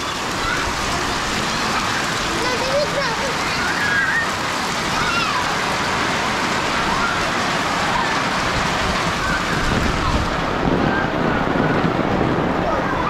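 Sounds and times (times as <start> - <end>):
children's voices: 0.0 - 13.0
steady rain on street and roofs: 0.0 - 13.0.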